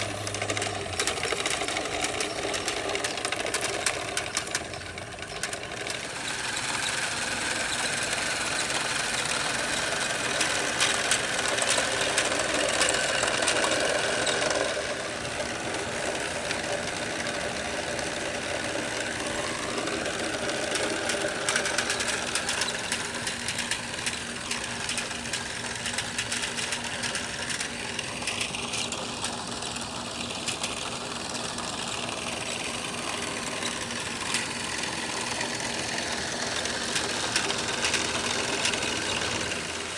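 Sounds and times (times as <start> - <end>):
electric motor whine: 0.0 - 39.9
plastic chain and gears clattering: 0.0 - 39.9.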